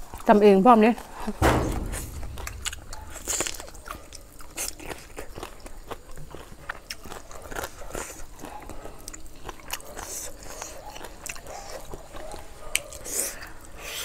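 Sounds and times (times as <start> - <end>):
people chewing and crunching food: 0.0 - 1.3, 3.3 - 14.0.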